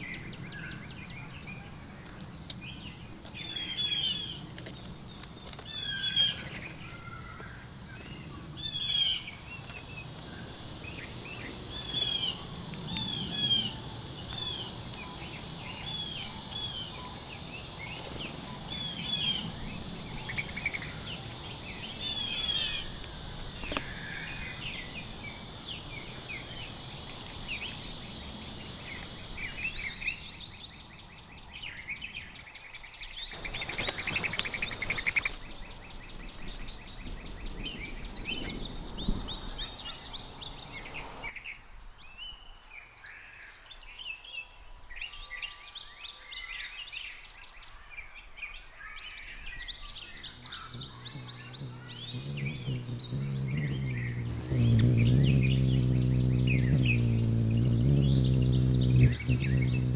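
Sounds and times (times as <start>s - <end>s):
steady high hiss: 0.0s - 32.0s, 33.3s - 41.3s, 49.8s - 59.9s
small birds chirping: 0.0s - 41.4s, 42.9s - 59.9s.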